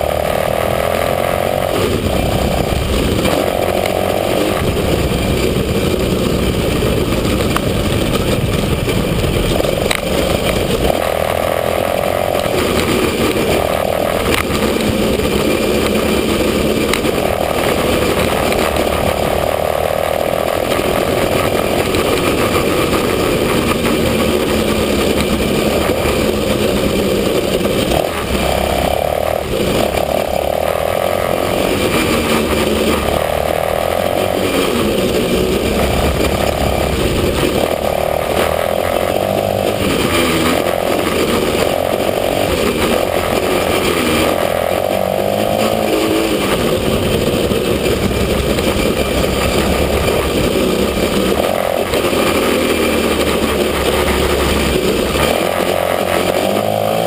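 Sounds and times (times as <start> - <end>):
small atv engine revving: 0.0 - 57.0.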